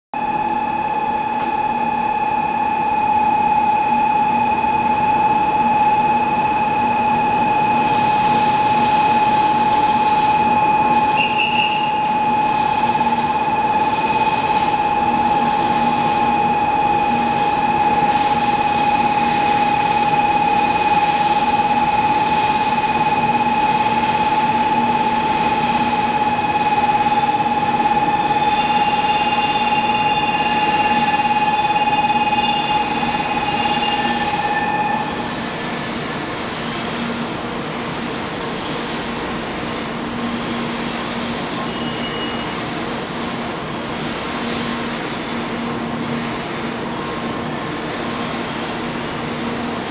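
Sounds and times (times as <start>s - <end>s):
train high-pitched whine: 0.2s - 49.9s
train running hum: 0.2s - 49.9s.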